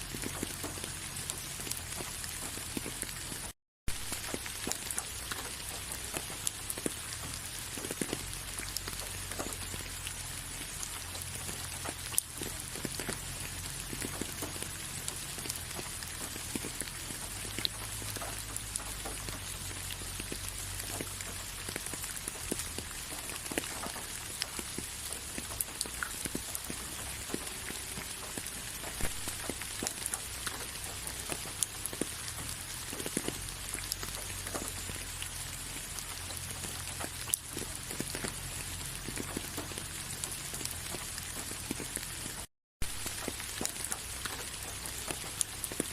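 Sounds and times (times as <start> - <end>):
raindrops ticking on a surface: 0.0 - 45.9
steady rain hiss: 0.0 - 45.9.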